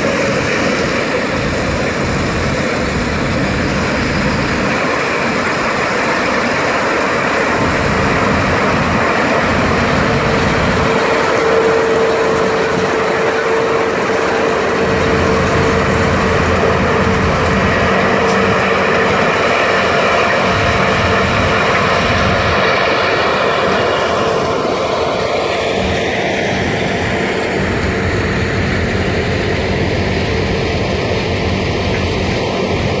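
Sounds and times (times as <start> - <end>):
combine harvester drone: 0.0 - 33.0.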